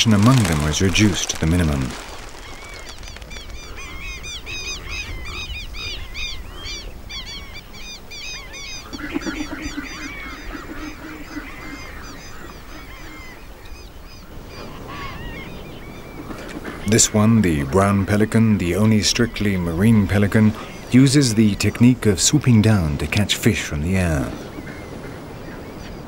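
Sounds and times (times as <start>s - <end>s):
birds chirping: 0.0s - 26.0s
birds honking: 0.0s - 26.0s.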